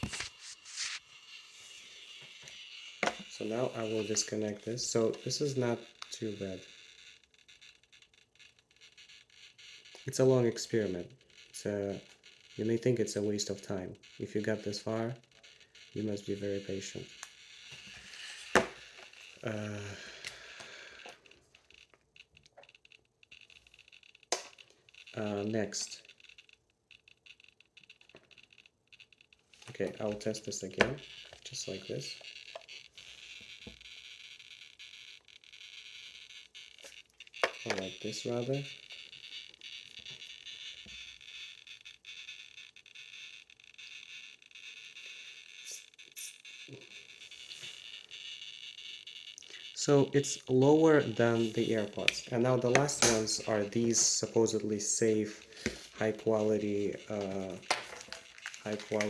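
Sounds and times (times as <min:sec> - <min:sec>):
room tone hiss: 0:00.0 - 0:22.0, 0:29.0 - 0:59.0.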